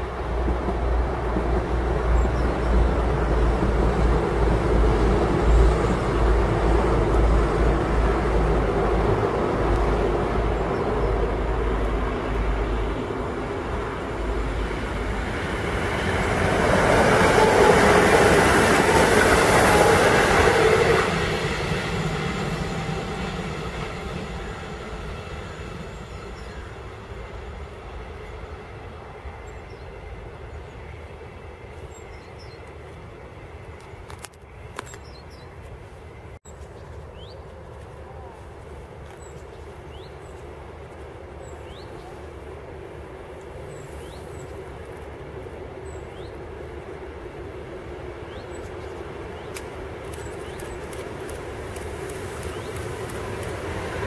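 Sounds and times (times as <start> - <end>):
heavy low rail rumble: 0.0 - 54.0
train wheels on rail: 0.0 - 54.0.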